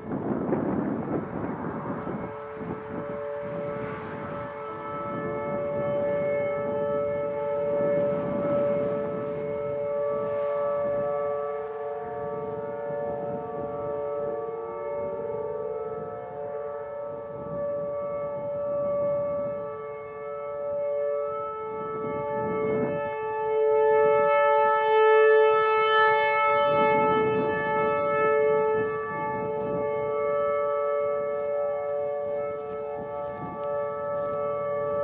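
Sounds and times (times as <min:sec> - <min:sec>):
warning sirens steady tone: 0:00.0 - 0:35.0.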